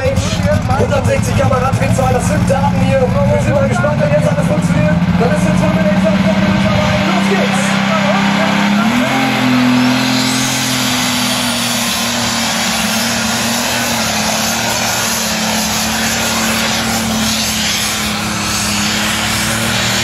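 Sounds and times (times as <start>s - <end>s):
tractor engine drone: 0.0s - 20.0s.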